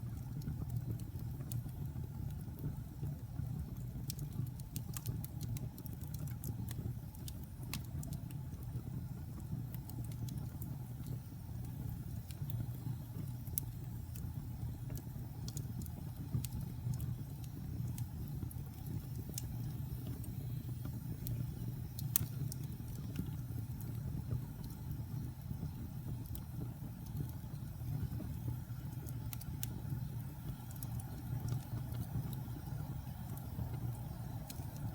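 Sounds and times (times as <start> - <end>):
burning wood crackling and popping: 0.0 - 34.9
fire flames rumbling: 0.0 - 34.9.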